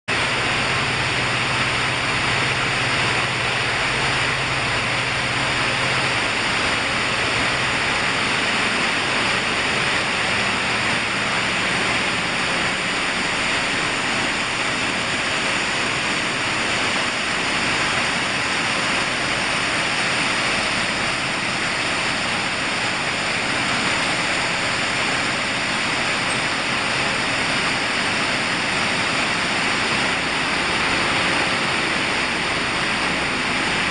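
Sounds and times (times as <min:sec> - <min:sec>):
low motor hum: 0:00.1 - 0:33.9.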